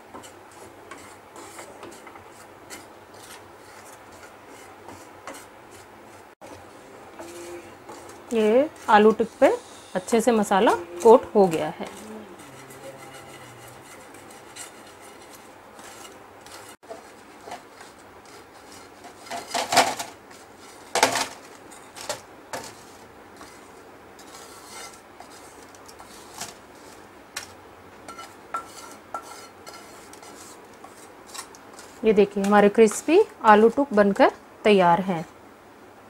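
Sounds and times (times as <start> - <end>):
metal spoon scraping metal pan: 0.2 - 5.8, 7.2 - 20.0, 21.7 - 27.0, 28.1 - 34.0.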